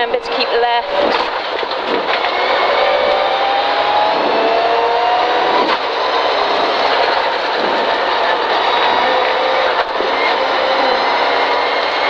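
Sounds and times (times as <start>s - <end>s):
rally car engine accelerating: 0.0s - 12.0s
tyre and road noise: 0.0s - 12.0s.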